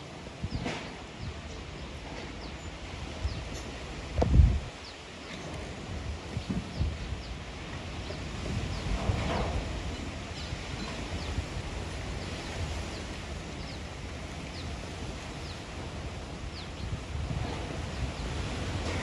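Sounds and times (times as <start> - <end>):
gusty wind rustling leaves: 0.0 - 19.0
wind buffeting microphone: 0.1 - 19.0.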